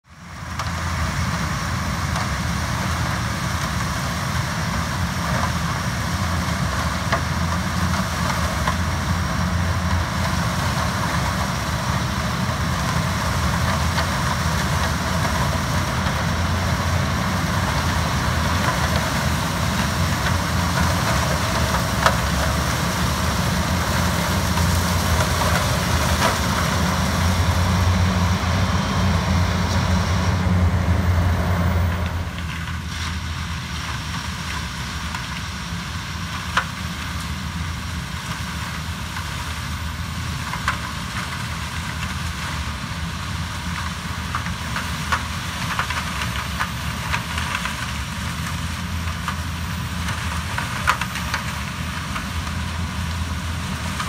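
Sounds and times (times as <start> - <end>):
harvester engine drone: 0.1 - 54.0.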